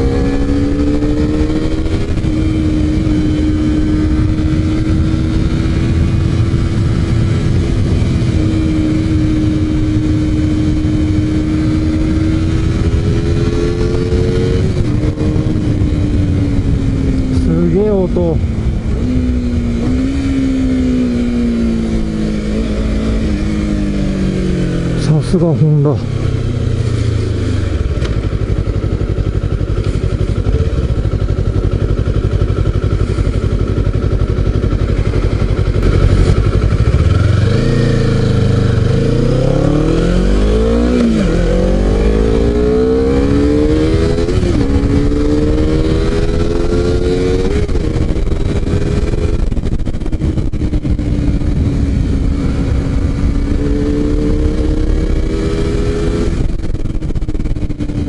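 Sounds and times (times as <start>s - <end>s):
wind rush: 0.0s - 25.0s, 25.8s - 58.0s
motorcycle engine revving: 0.0s - 58.0s.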